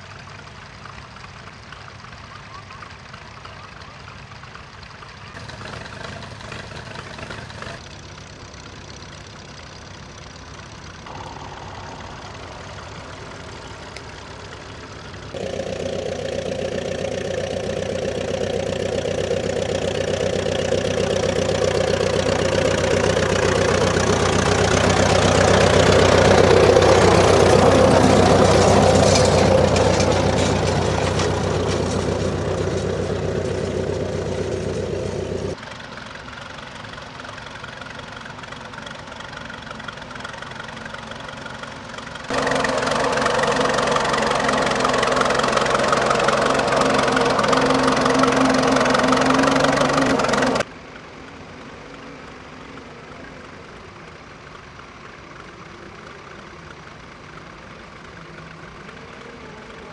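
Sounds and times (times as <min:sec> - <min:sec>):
another tractor engine running loudly: 0:00.0 - 0:50.7
tractor engine running: 0:00.0 - 0:59.9.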